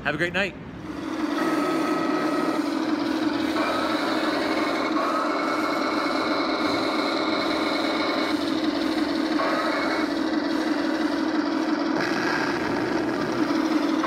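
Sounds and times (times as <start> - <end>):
model tank engine drone: 0.8 - 14.0.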